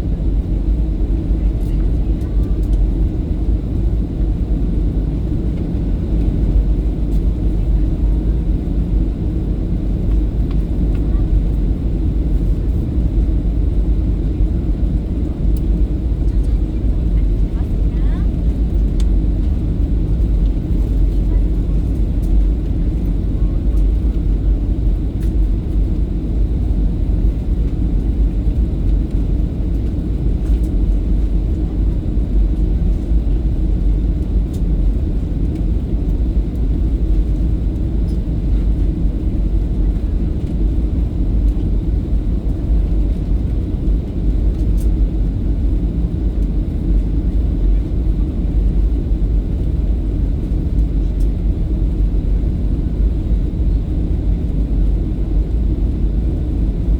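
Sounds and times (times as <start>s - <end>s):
airliner engines rumbling in cabin: 0.0s - 56.9s.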